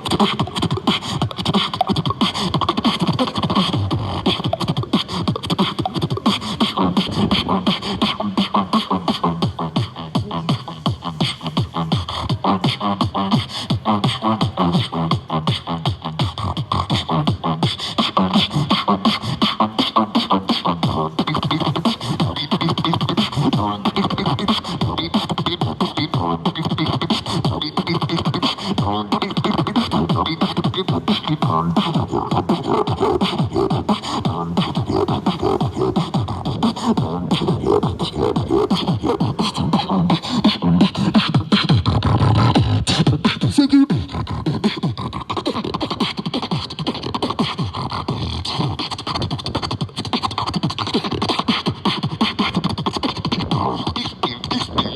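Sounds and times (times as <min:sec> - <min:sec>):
beatboxing: 0:00.0 - 0:54.9.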